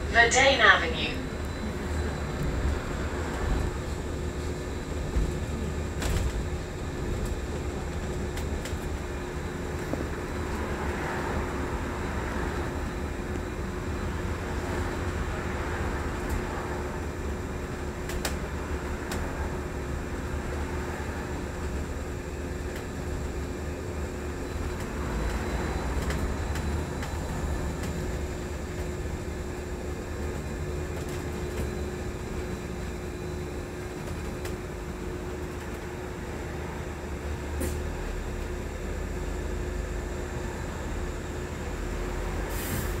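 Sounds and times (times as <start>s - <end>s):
bus cabin rumble and hum: 0.0s - 43.0s.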